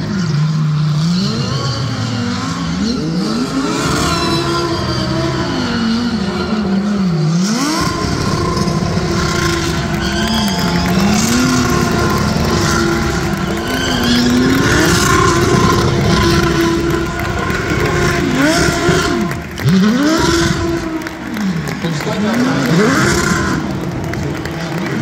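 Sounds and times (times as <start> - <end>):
race car engines revving: 0.0 - 25.0
spinning tyres hissing: 0.0 - 25.0.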